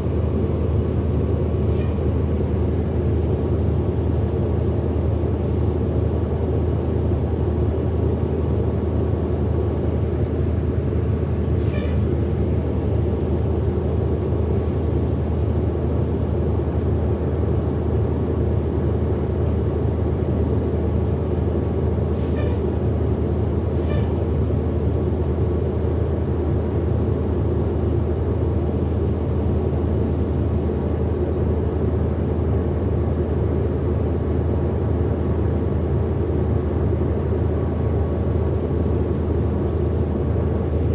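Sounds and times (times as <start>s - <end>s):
bus drivetrain and road noise: 0.0s - 40.9s.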